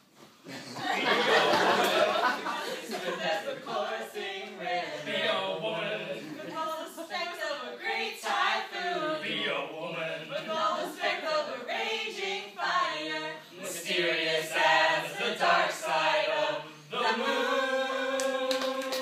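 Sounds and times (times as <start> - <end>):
group singing unaccompanied: 0.8 - 19.0.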